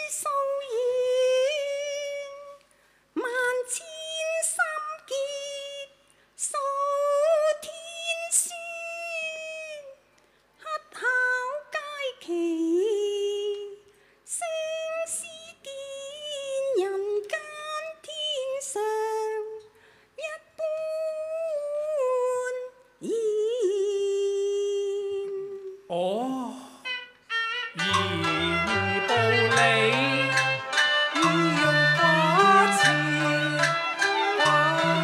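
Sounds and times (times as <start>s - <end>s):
woman singing opera: 0.0s - 2.6s, 3.2s - 10.0s, 10.6s - 26.8s, 31.1s - 35.0s.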